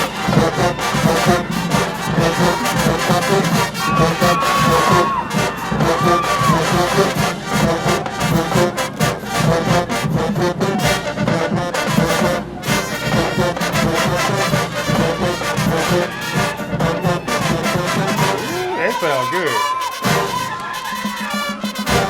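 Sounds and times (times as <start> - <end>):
drumline rapid hits: 0.0 - 22.0
marching band brass section: 0.0 - 22.0.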